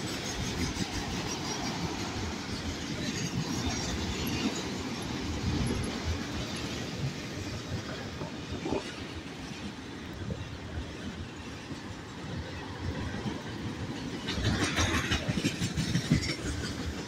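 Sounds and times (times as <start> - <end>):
steel wheels on rails: 0.0 - 17.0
train cars rattling: 0.0 - 17.0.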